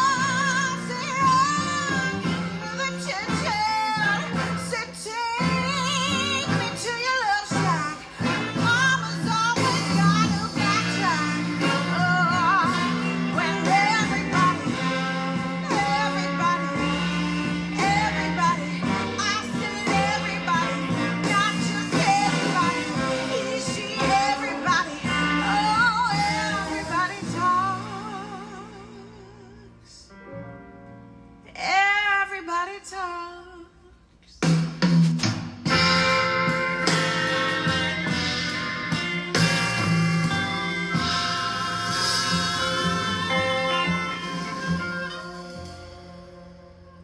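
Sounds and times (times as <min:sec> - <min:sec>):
pop-rock song with vocals: 0:00.0 - 0:30.3, 0:31.5 - 0:33.8, 0:35.7 - 0:47.0.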